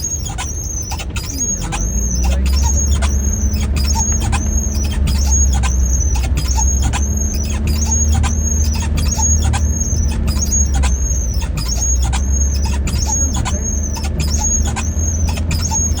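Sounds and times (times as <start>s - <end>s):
car engine low rumble: 0.0s - 16.0s
high-pitched squeak with click: 0.0s - 16.0s.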